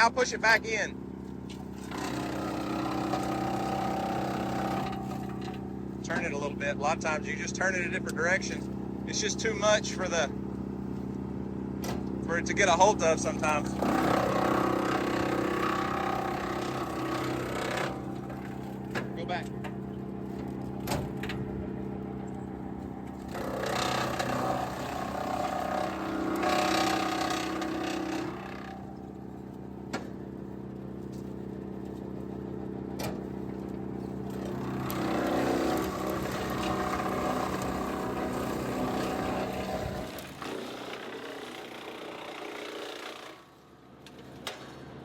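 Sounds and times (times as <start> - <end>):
wood chipper chipping limbs: 0.0 - 45.0
wood chipper running: 0.0 - 45.0.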